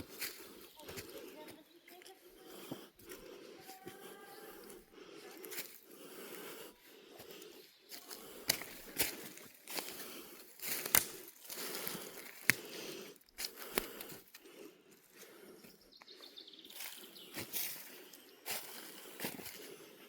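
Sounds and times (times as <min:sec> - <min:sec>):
footsteps crunching on a path: 0:00.0 - 0:20.0.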